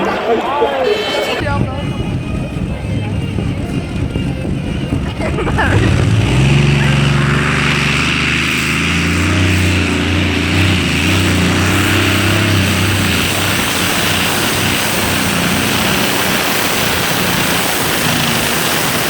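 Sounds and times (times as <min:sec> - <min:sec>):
broad rushing noise: 0:00.0 - 0:19.0
engine running hard under load: 0:01.3 - 0:19.0.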